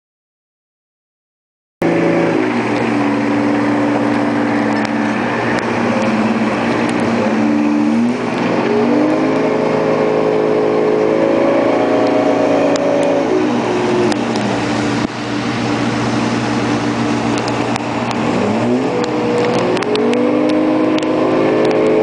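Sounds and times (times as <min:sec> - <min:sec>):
boat engine running: 0:01.8 - 0:22.0
wind and water rushing: 0:01.8 - 0:22.0.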